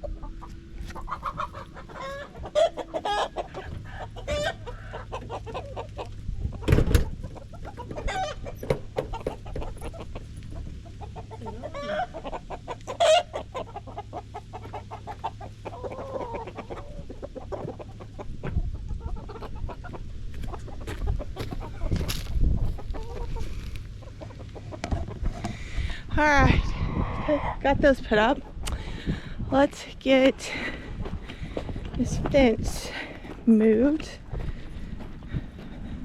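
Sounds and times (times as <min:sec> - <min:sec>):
chickens clucking and squawking: 0:00.0 - 0:36.0.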